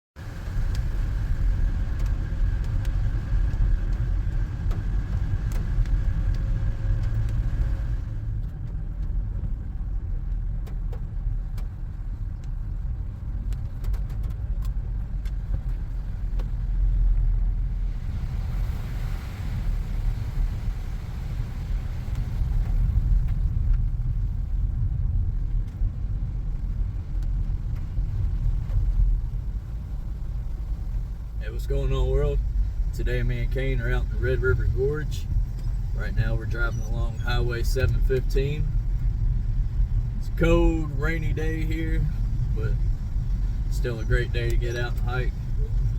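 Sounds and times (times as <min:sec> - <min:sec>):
car engine and tyres rumbling: 0:00.2 - 0:45.9
light ticks: 0:00.4 - 0:17.6, 0:22.1 - 0:45.9.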